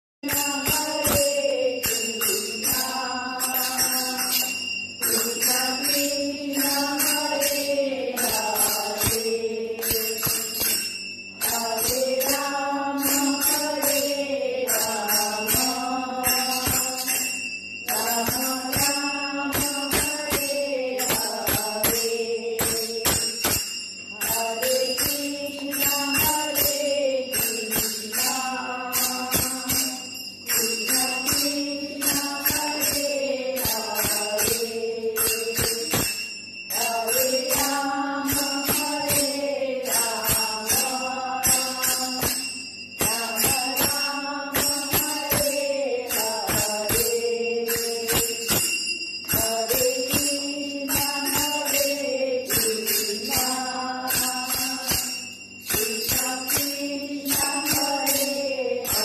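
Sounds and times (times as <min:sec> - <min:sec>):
jingling tambourine strikes: 0:00.2 - 0:59.0
voices singing a chant: 0:00.2 - 0:59.0.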